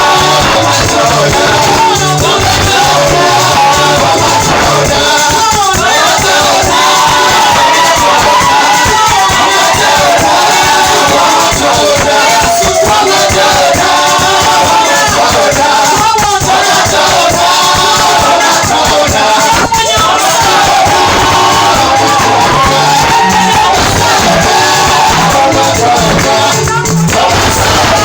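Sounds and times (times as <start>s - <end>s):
band with steady beat: 0.0s - 28.0s
voices singing: 0.0s - 28.0s.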